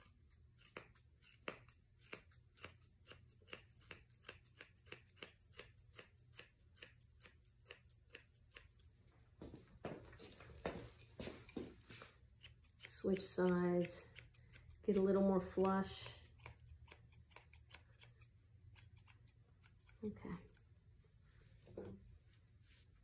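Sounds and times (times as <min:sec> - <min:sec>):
scissors snipping dog hair: 0:00.0 - 0:09.0, 0:11.0 - 0:20.7.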